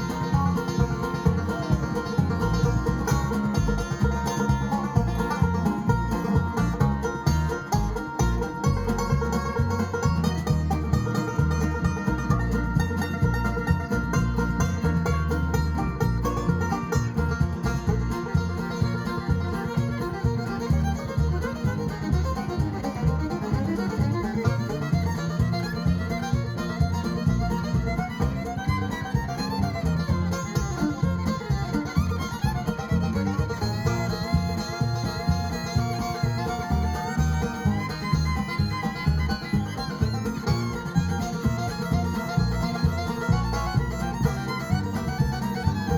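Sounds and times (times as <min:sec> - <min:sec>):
bluegrass band playing: 0:00.0 - 0:45.9
fiddle melody: 0:00.0 - 0:45.9.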